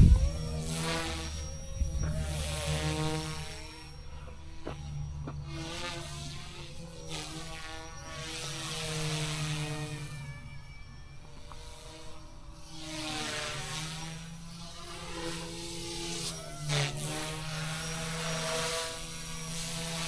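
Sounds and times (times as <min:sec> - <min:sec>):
rc helicopter motor buzzing whine: 0:00.0 - 0:20.0.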